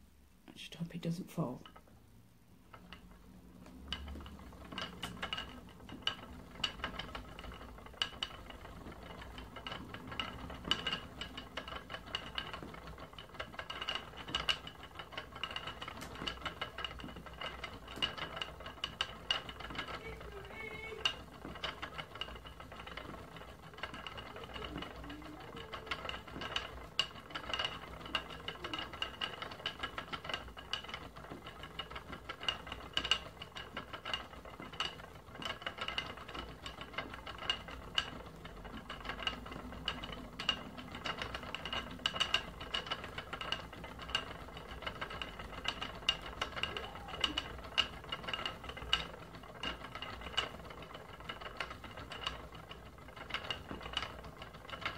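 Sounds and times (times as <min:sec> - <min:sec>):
light clicks and rattles: 0:01.3 - 0:54.9
spinning wheel whine: 0:01.7 - 0:54.9.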